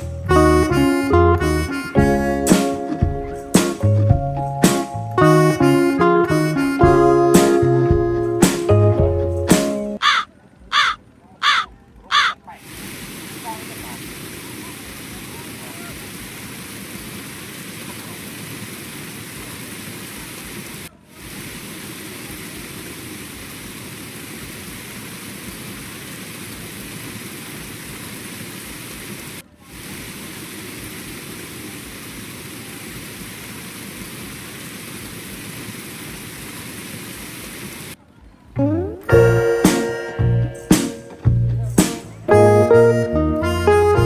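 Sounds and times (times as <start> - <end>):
steady hissing noise: 0.0 - 6.2, 7.4 - 42.7.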